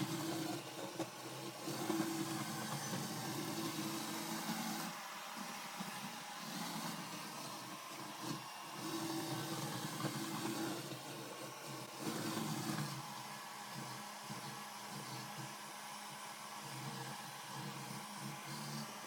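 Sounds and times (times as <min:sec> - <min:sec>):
robot vacuum motor whirring: 0:00.0 - 0:19.0.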